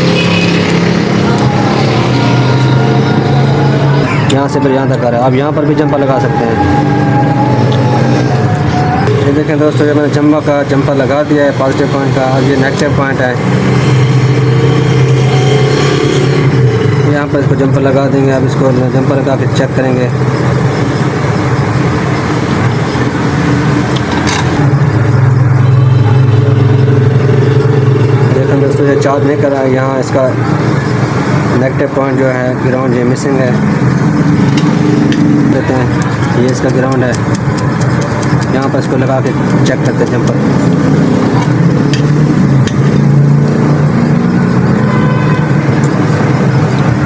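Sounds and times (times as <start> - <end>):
background traffic noise: 0.0 - 47.0
low engine-like hum: 0.7 - 47.0.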